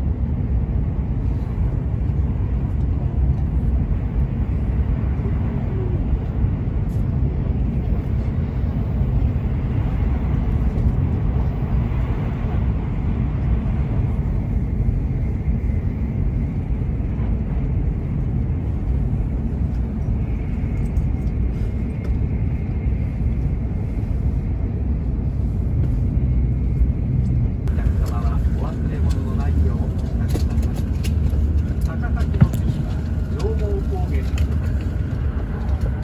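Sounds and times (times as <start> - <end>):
wheels rumbling on track: 0.0 - 36.0.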